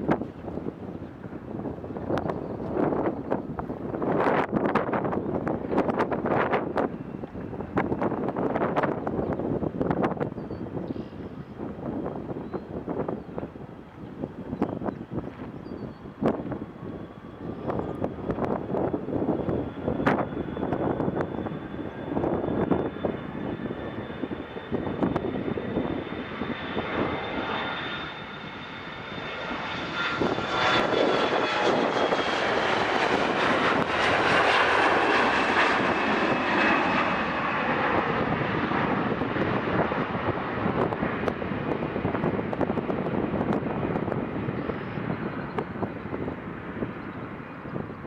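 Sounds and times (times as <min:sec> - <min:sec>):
airplane passing by: 0:00.0 - 0:48.0.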